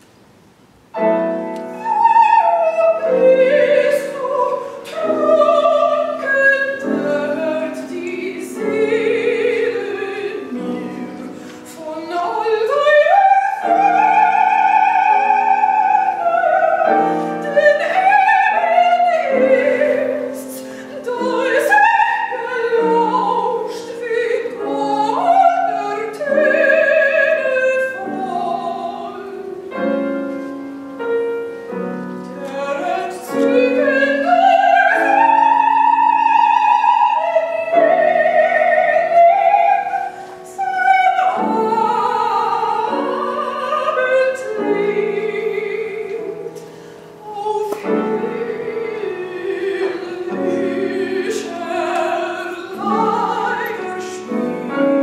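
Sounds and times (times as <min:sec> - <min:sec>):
grand piano: 0:00.0 - 0:55.0
woman singing opera: 0:01.0 - 0:30.5, 0:31.8 - 0:55.0.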